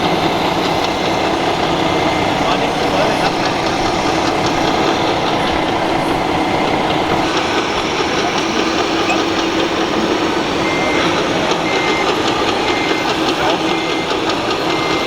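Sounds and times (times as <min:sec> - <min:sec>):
model machines humming: 0:00.0 - 0:15.0
reversing beeper: 0:00.0 - 0:15.0.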